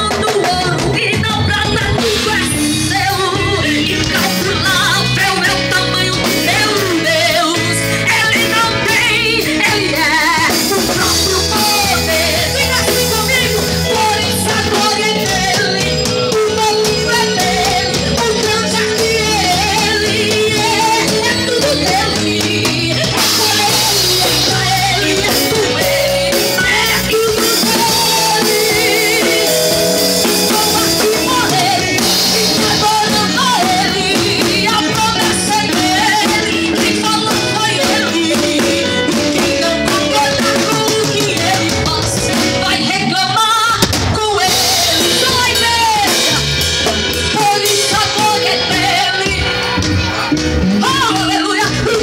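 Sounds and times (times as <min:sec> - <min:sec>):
gospel band playing: 0:00.0 - 0:52.0
person singing: 0:00.0 - 0:52.0.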